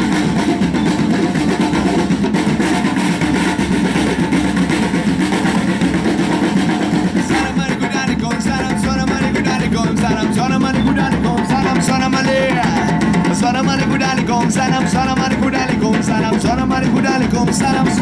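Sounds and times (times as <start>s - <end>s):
loud music with drums and guitar: 0.0s - 18.0s.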